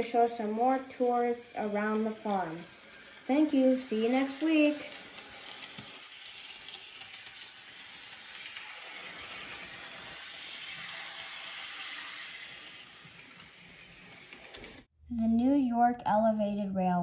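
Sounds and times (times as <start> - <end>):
model train motor whirring: 0.0 - 14.9.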